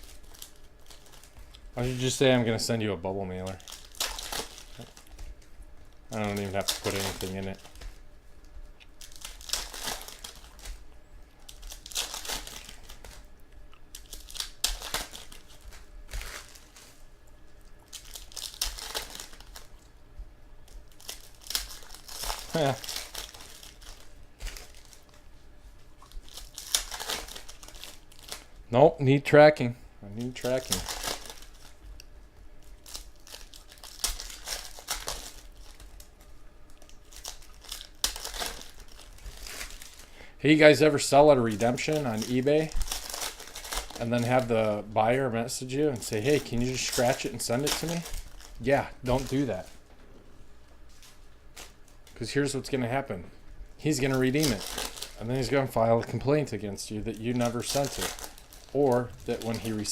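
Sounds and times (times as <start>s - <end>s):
plastic wrapper tearing: 0.0s - 2.7s, 3.4s - 5.5s, 6.1s - 8.0s, 8.8s - 17.0s, 17.8s - 19.9s, 20.6s - 25.2s, 26.0s - 28.6s, 30.1s - 49.8s, 53.8s - 59.9s
plastic wrappers crinkling: 0.0s - 19.9s, 20.6s - 28.8s, 30.1s - 49.9s, 50.8s - 53.2s, 53.8s - 59.9s.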